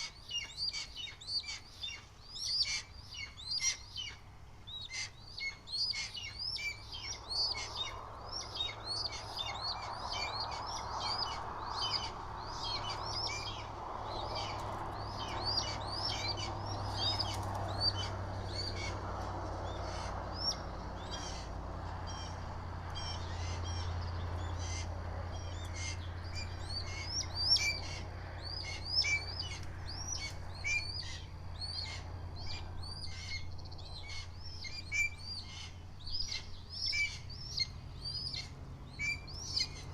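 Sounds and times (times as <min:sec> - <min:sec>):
steady low hum: 0:00.0 - 0:39.9
wild birds chirping: 0:00.0 - 0:39.9.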